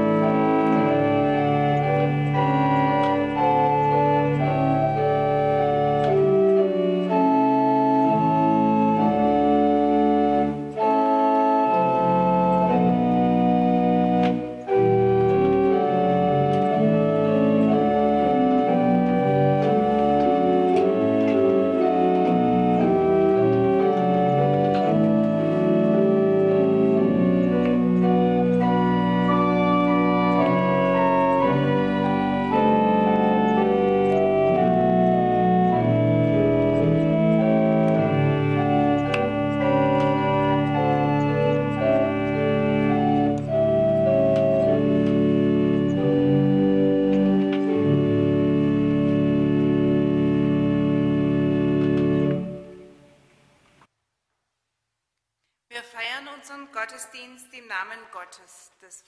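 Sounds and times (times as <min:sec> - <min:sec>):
church organ chords: 0:00.0 - 0:53.6.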